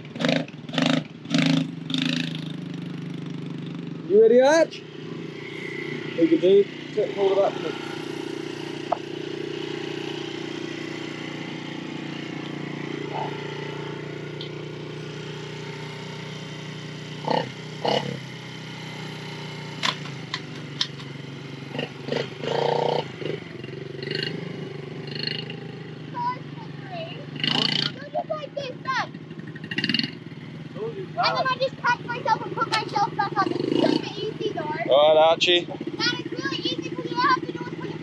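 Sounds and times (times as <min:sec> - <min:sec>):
motorbike engine running: 0:00.0 - 0:38.0.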